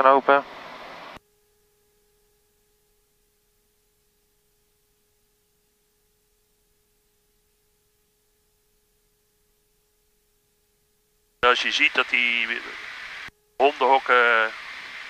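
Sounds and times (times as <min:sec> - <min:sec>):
faint steady electronic tone: 0:00.0 - 0:15.0.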